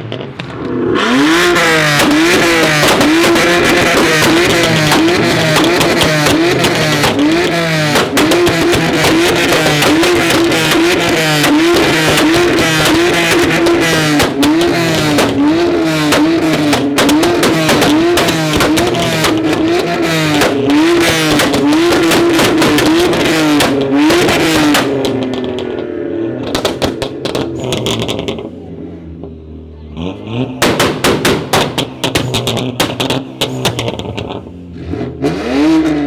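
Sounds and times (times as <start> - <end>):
exhaust bangs and crackles: 0.0 - 36.0
sports car engine revving: 0.0 - 36.0.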